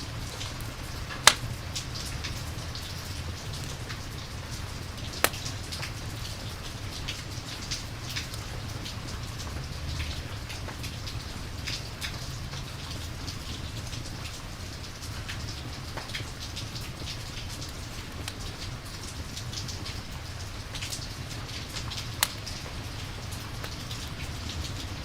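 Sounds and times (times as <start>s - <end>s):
rain drops ticking on a surface: 0.0s - 25.0s.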